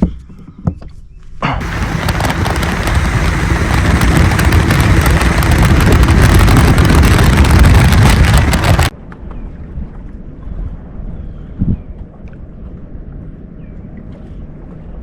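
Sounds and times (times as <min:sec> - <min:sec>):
wind buffeting microphone: 0:01.6 - 0:14.0.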